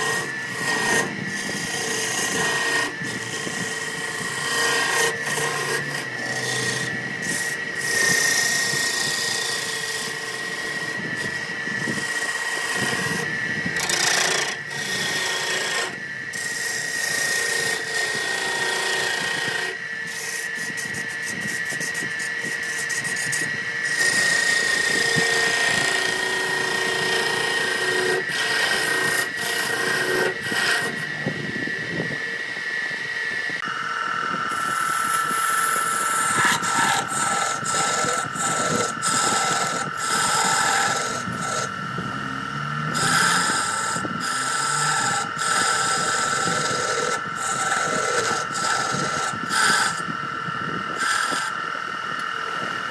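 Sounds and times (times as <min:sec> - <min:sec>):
lathe high whine: 0:00.0 - 0:52.9
turning tool scraping wood: 0:00.0 - 0:52.9.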